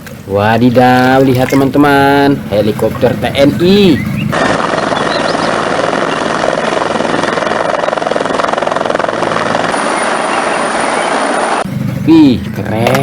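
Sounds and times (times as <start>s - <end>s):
helicopter rotor chop: 0.1s - 13.0s.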